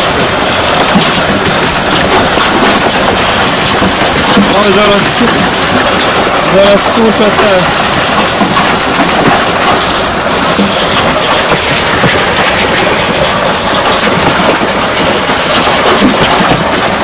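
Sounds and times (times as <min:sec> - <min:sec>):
hailstones pelting the ground: 0:00.0 - 0:17.0.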